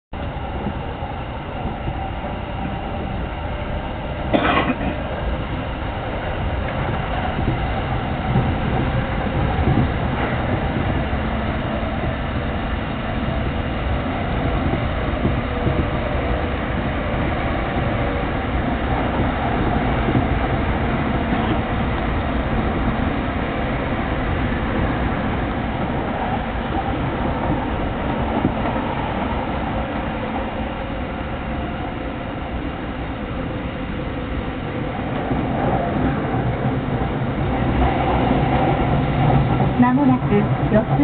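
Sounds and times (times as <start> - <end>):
train wheels rumbling with rattle: 0.2 - 41.0.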